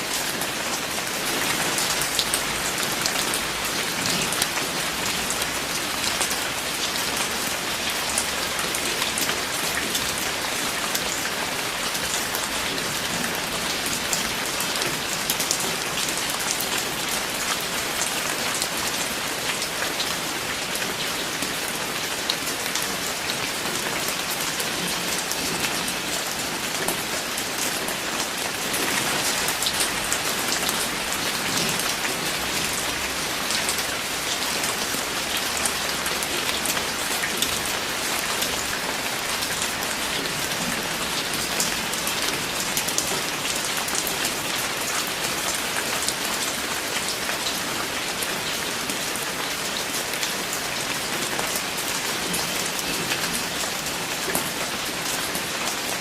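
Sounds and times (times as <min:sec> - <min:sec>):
raindrops pattering on surface: 0:00.0 - 0:56.0
steady rain falling: 0:00.0 - 0:56.0.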